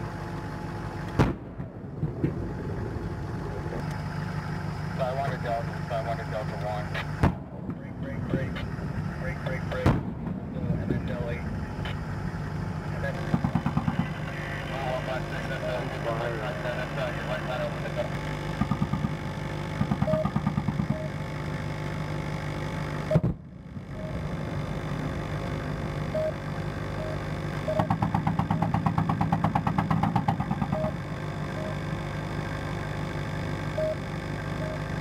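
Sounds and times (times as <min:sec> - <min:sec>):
steady engine hum: 0:00.0 - 0:35.0.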